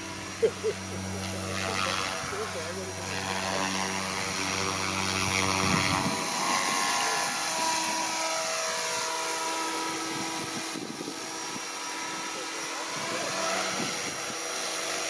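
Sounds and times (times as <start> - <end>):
electric motor whine: 0.0 - 15.0
low hum: 0.0 - 15.0
rotor blades: 0.0 - 15.0.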